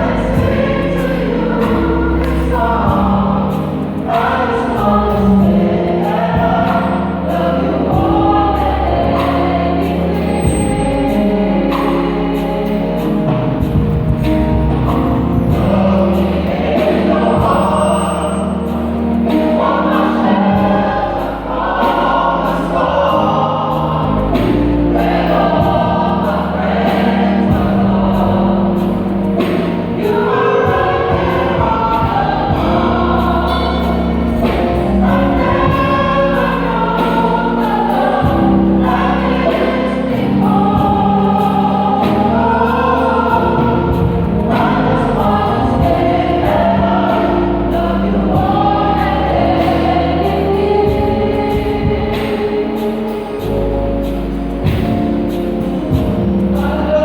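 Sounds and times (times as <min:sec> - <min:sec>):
instrumental backing with bass: 0:00.0 - 0:57.0
vocal group singing in harmony: 0:00.0 - 0:57.0.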